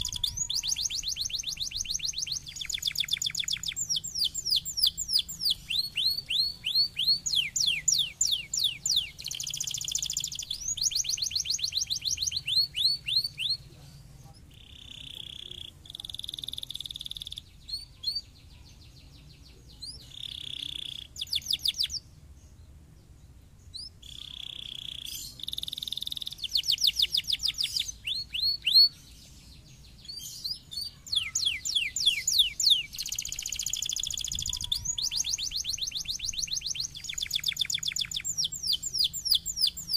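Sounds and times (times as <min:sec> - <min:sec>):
canary singing: 0:00.0 - 0:22.1, 0:23.7 - 0:39.9.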